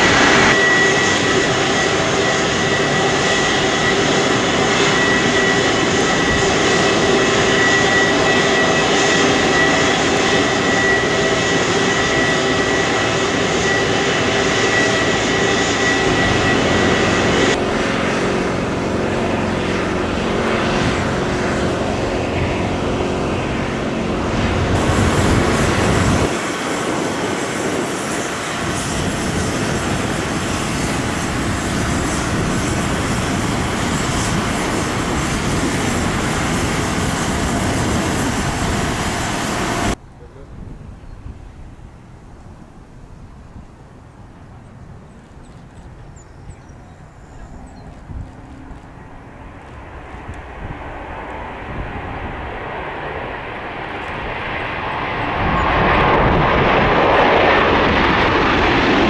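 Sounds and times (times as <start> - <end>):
jet engines rumbling with whine: 0.0 - 59.0.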